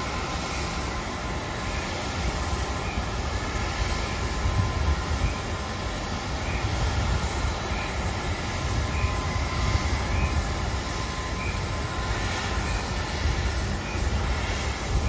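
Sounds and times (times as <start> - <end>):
jet engine low rumble with whine: 0.0 - 15.0.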